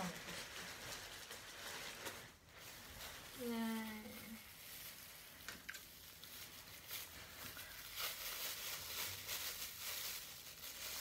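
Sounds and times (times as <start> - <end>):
soft rustling and handling: 0.0 - 11.0.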